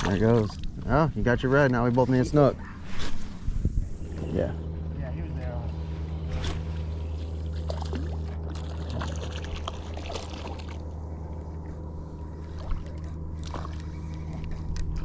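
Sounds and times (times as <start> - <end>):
water sounds: 0.0 - 4.2, 5.7 - 15.0
boat engine humming: 0.0 - 15.0.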